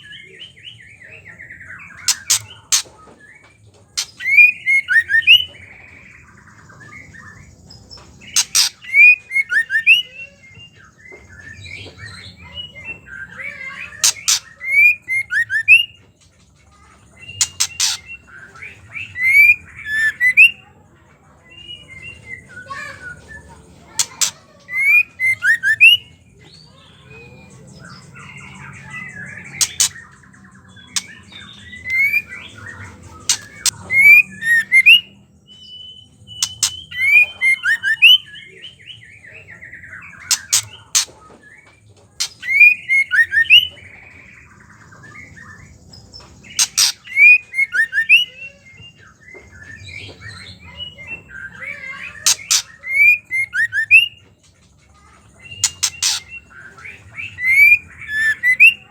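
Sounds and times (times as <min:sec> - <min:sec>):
bird chirping and rattling: 0:01.6 - 0:05.7, 0:06.6 - 0:20.5, 0:22.0 - 0:38.5, 0:39.8 - 0:49.0, 0:49.6 - 0:58.9.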